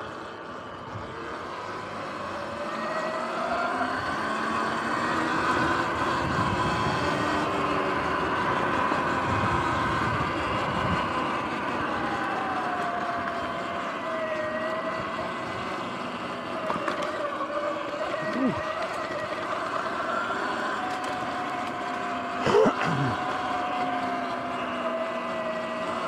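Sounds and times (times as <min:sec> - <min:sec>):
electric motor whining: 0:00.0 - 0:26.0
rushing riding noise: 0:00.0 - 0:26.0.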